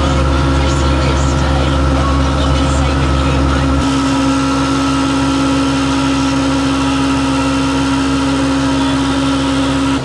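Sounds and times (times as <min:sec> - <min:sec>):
constant whine: 0:00.0 - 0:10.0
tractor engine running: 0:00.0 - 0:10.0.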